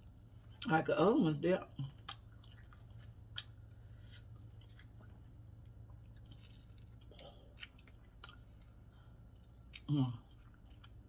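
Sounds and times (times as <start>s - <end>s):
steady low hum: 0.0s - 11.0s
chewing: 1.8s - 11.0s.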